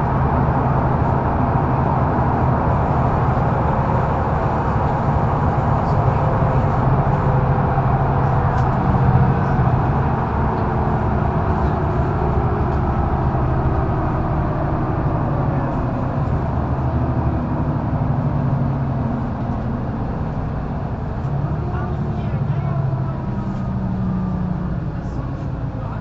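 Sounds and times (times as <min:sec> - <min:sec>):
bus engine hum: 0:00.0 - 0:26.0
road noise: 0:00.0 - 0:26.0.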